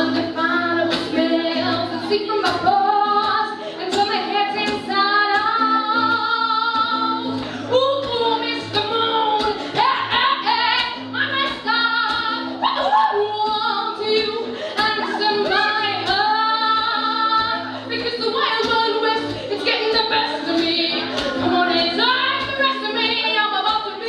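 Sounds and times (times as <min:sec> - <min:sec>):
low rhythmic accompaniment: 0:00.0 - 0:24.0
woman singing: 0:00.0 - 0:24.0.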